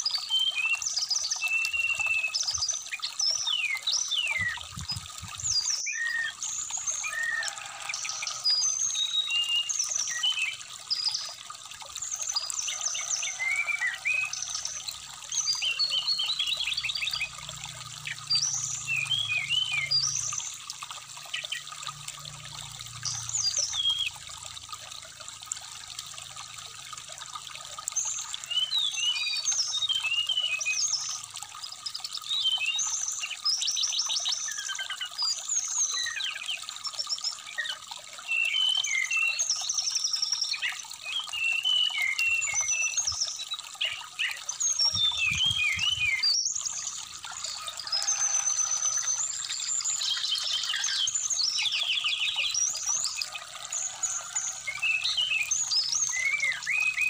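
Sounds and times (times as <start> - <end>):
bird song chirps and trills: 0.0 - 24.4, 27.2 - 57.0
trickling stream: 0.0 - 57.0.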